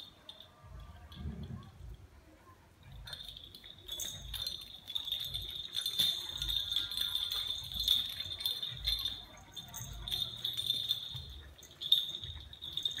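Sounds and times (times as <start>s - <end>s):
dog collar bell jingling: 0.0s - 1.4s, 2.9s - 13.0s.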